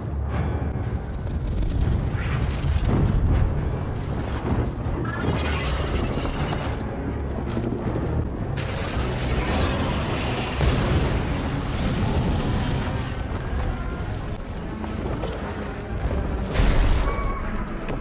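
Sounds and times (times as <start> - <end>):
soundtrack music: 0.0 - 18.0.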